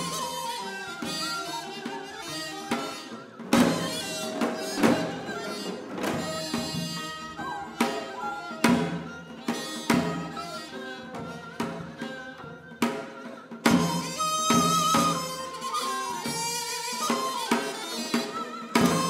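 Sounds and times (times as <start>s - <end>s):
bowed string instruments: 0.0s - 19.0s
sharp drum strokes: 0.0s - 19.0s
wind instrument melody: 0.0s - 19.0s.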